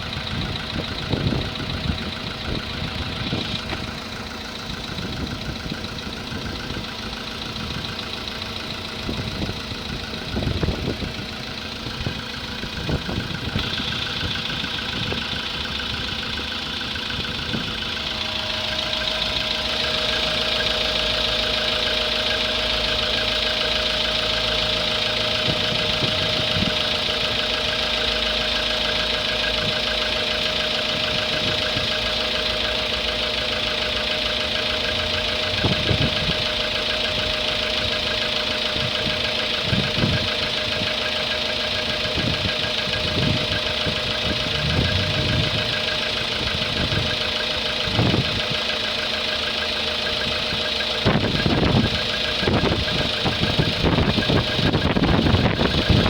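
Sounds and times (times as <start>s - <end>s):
engine running: 0.0s - 56.0s
steady whine: 0.6s - 56.0s.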